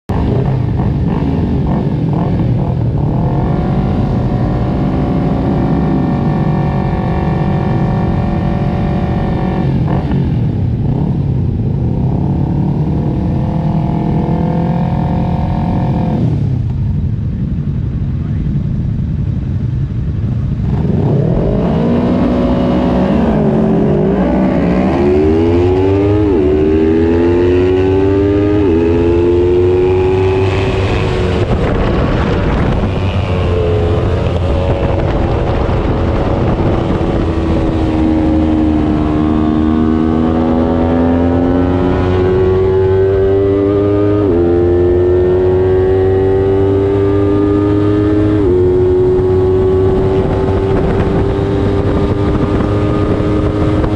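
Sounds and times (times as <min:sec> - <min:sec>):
motorcycle engine revving through gears: 0:00.1 - 0:16.8, 0:20.6 - 0:53.9.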